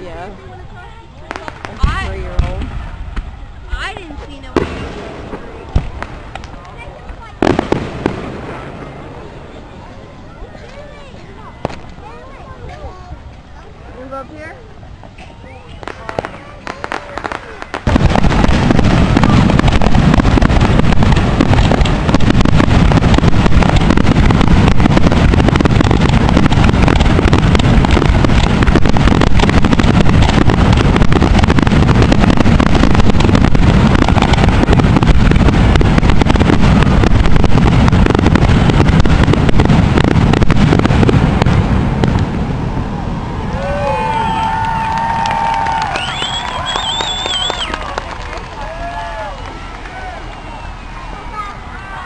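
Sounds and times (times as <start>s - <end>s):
fireworks barrage: 0.0s - 52.0s.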